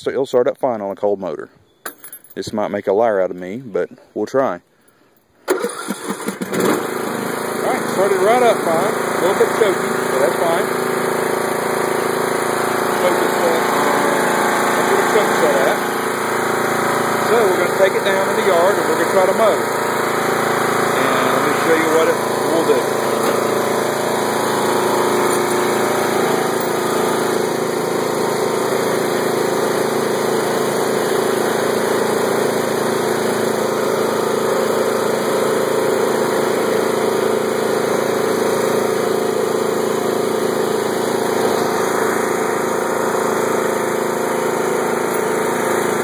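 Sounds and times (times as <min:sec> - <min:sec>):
lawn tractor engine running: 0:05.4 - 0:46.0.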